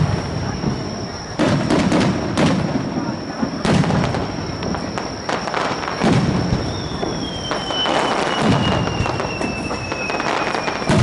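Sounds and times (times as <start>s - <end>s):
falling firework whistle: 0.0s - 11.0s
firework crackles: 0.0s - 11.0s
firework shell booming: 0.0s - 11.0s.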